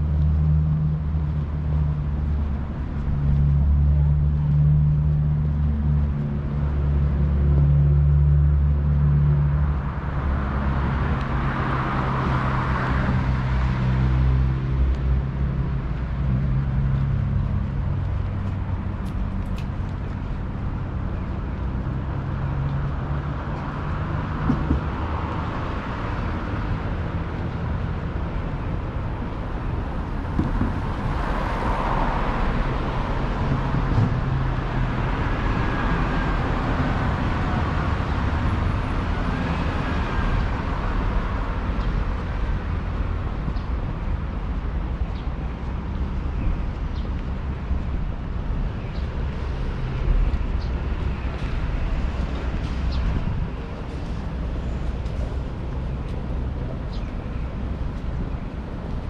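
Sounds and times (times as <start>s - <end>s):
cars passing with tyre noise: 0.0s - 59.0s
low engine hum: 0.0s - 59.0s.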